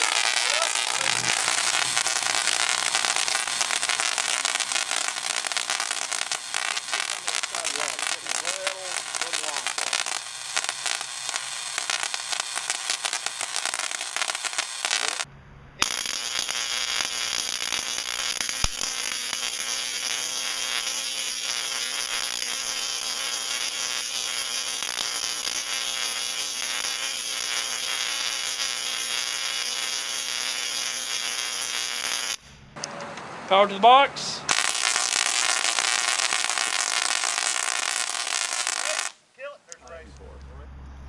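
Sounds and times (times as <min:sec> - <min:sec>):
tesla coil crackling and buzzing: 0:00.0 - 0:32.4, 0:34.5 - 0:39.2.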